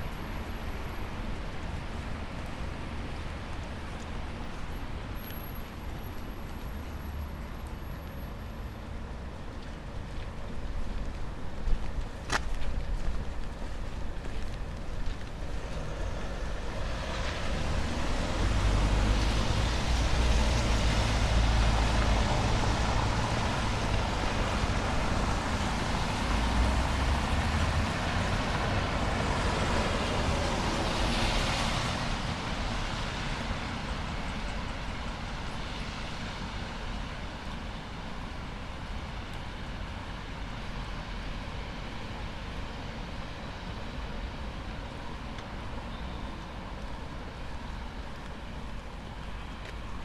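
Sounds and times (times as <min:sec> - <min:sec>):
tyres hissing on wet road: 0:00.0 - 0:09.0, 0:14.0 - 0:50.0.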